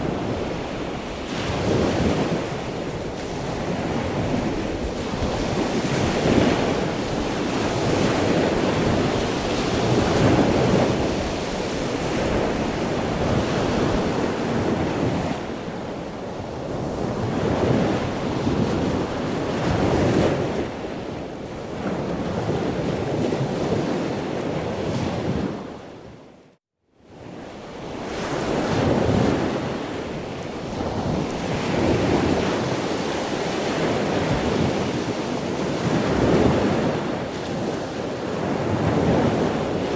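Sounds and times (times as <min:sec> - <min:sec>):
ocean surf washing: 0:00.0 - 0:26.1, 0:27.6 - 0:39.9.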